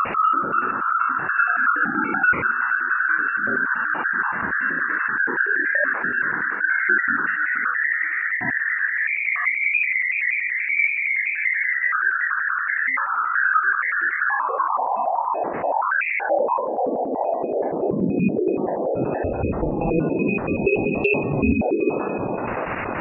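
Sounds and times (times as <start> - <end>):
wavering electronic tone: 0.0 - 23.0.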